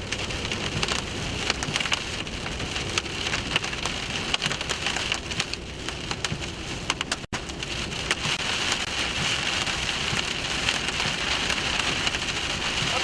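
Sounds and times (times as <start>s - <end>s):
heavy rain on vehicle: 0.0s - 13.0s.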